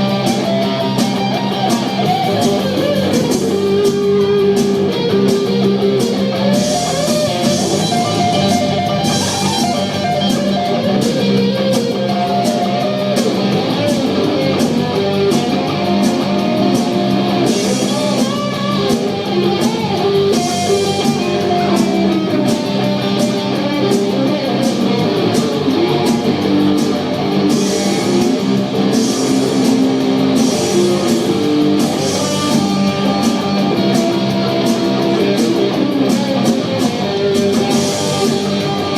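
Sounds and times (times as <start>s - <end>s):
drum kit: 0.0s - 38.9s
guitars: 0.0s - 38.9s.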